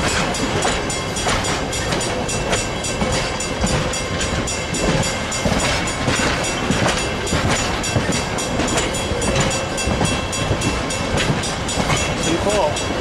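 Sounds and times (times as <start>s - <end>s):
train wheels rumbling on rail: 0.0s - 13.0s
wheels clacking over rail joints: 0.0s - 13.0s.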